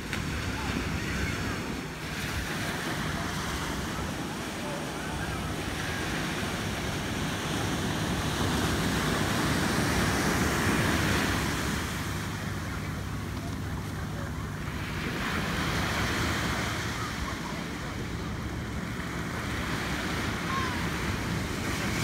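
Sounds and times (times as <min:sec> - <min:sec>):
ocean surf on beach: 0:00.0 - 0:22.0.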